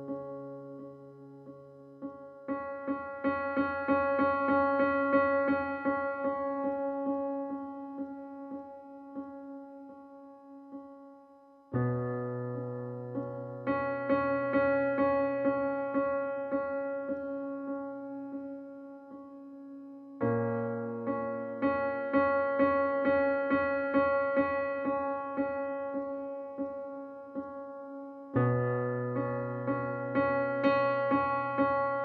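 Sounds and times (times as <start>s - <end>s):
keyboard piano music: 0.0s - 32.0s.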